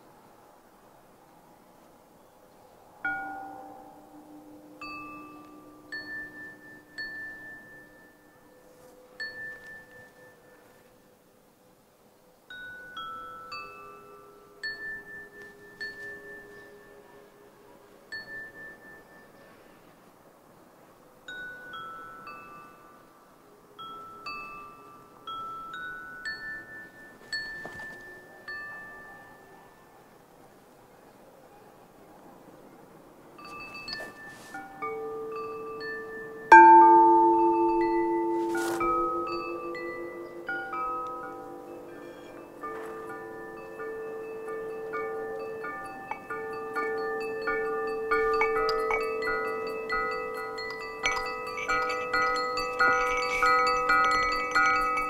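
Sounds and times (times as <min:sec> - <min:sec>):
porcelain bell-like tones: 0:03.0 - 0:11.0, 0:12.5 - 0:19.8, 0:21.3 - 0:30.2, 0:33.4 - 0:55.0.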